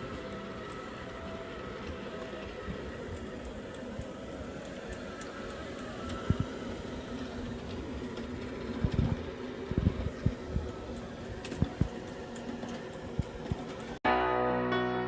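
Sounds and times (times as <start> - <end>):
robot vacuum whirring hum: 0.0 - 14.0.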